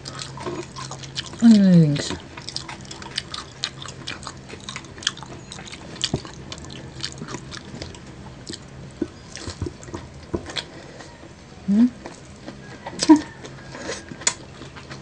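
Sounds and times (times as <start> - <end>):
crunchy chewing and biting: 0.0 - 11.4, 12.0 - 15.0.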